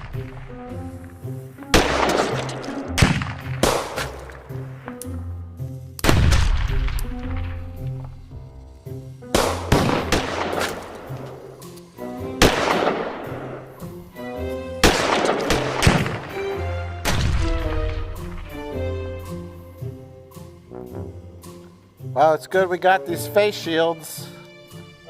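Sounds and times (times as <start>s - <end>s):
background music: 0.0s - 25.0s.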